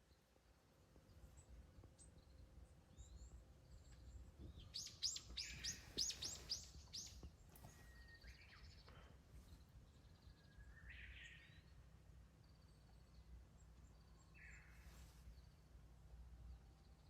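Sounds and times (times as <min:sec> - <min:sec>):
faint bird chirps: 0:00.0 - 0:15.8
songbird singing: 0:00.0 - 0:17.0.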